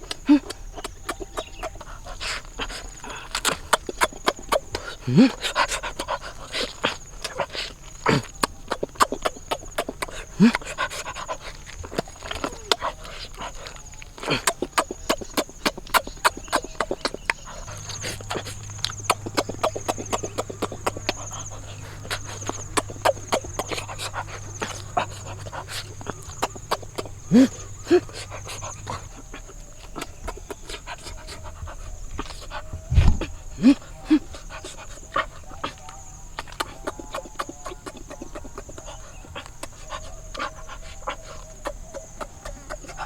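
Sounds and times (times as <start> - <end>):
high insect drone: 0.0 - 43.0
wet chewing and smacking: 0.0 - 43.0.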